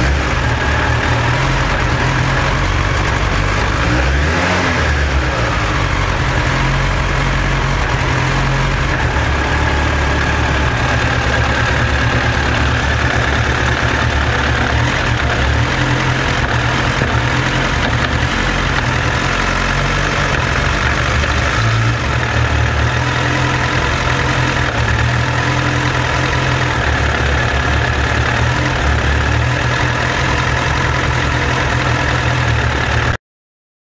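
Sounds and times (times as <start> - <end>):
motorcycle engine idling: 0.0 - 4.2, 5.0 - 33.2.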